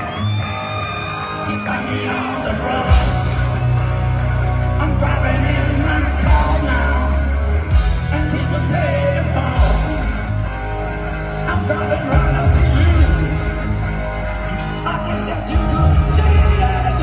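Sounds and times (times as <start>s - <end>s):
bass guitar: 0.0s - 17.0s
drums: 0.0s - 17.0s
electric guitars: 0.0s - 17.0s
singer: 0.0s - 17.0s.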